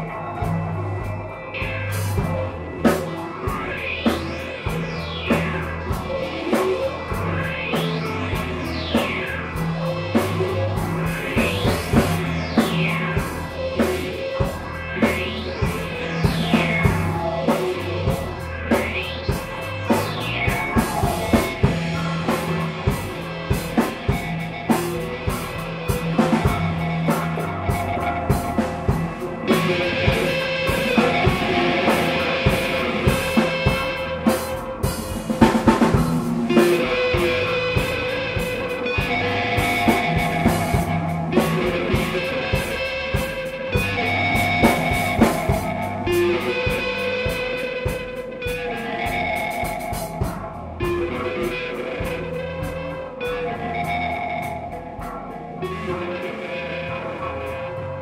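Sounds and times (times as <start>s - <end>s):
instrumental space rock band: 0.0s - 58.0s.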